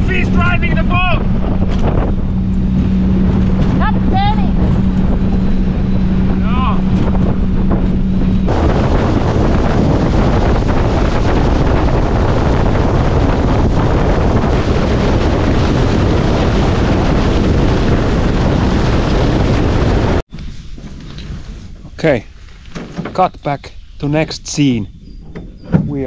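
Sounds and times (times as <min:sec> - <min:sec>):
water rushing along boat hull: 0:00.0 - 0:21.9
wind buffeting microphone: 0:00.0 - 0:26.0.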